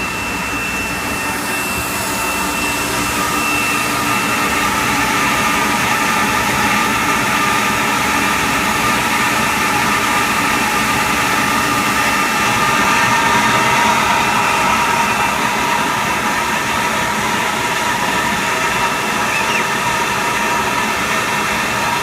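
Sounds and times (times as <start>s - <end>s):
high whining tones: 0.0s - 21.8s
parts washer rushing noise: 0.0s - 22.0s.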